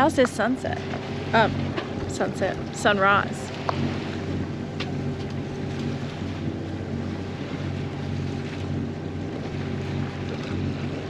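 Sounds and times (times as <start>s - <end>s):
boat engine running: 0.0s - 11.0s
water rushing alongside: 0.0s - 11.0s
wind on microphone: 0.0s - 11.0s.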